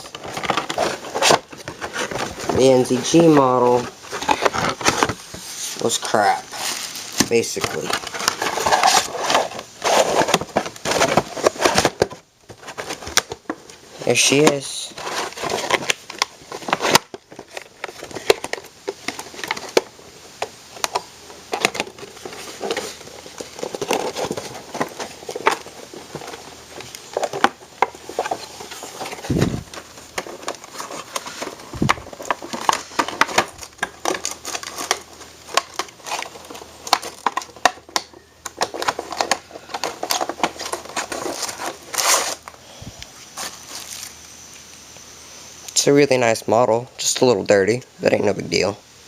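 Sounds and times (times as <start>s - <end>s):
packaging crinkling: 0.0s - 42.6s, 43.3s - 44.2s.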